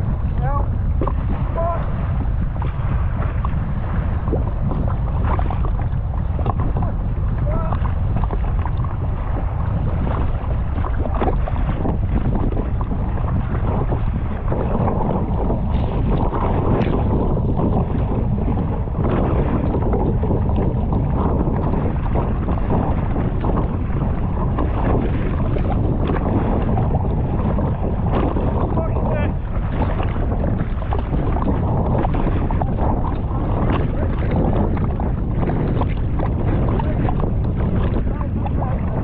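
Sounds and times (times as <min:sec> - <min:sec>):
short knocks or splashes: 0:00.0 - 0:39.0
strong wind on microphone: 0:00.0 - 0:39.0.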